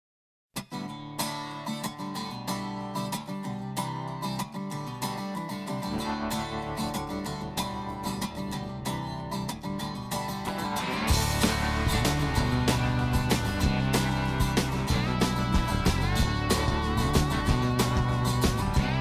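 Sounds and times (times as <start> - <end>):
acoustic guitar strumming: 0.6 - 19.0.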